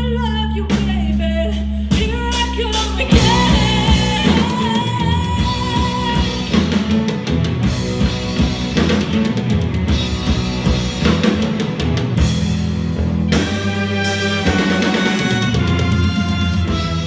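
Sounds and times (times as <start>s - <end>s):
drum kit playing: 1.9s - 17.0s
rock guitar chords: 3.1s - 17.0s.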